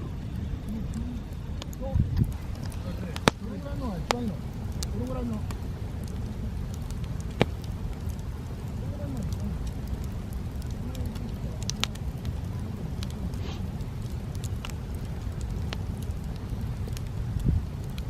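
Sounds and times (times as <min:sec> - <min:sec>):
campfire crackling and popping: 0:00.0 - 0:18.0
steady low rumble: 0:00.0 - 0:18.0.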